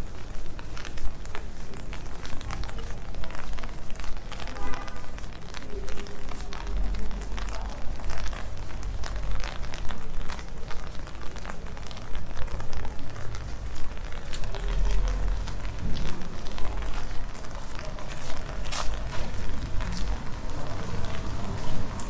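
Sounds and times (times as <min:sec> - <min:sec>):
rain pattering on street: 0:00.0 - 0:22.0.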